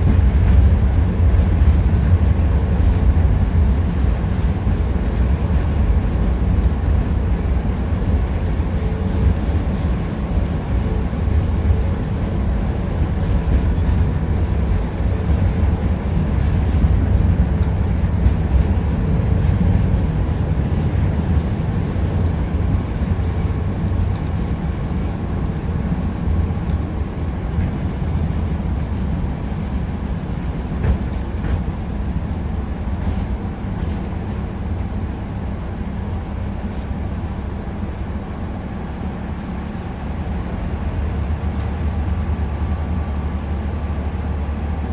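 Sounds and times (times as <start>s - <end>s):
tram wheels rumbling on rails: 0.0s - 44.9s.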